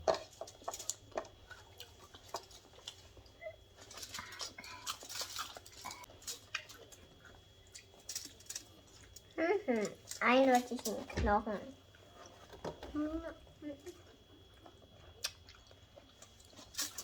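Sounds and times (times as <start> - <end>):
soft chewing and smacking: 0.0 - 10.2, 11.8 - 17.0.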